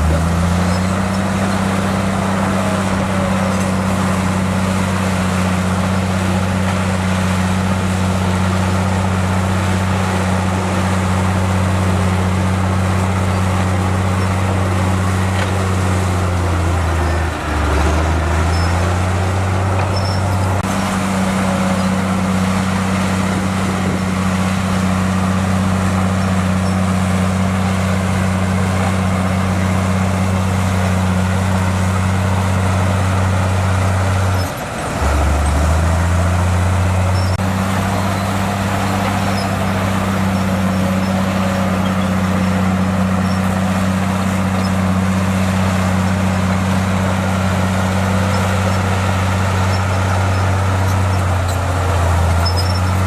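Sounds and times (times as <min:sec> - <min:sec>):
heavy diesel engine humming: 0:00.0 - 0:53.0.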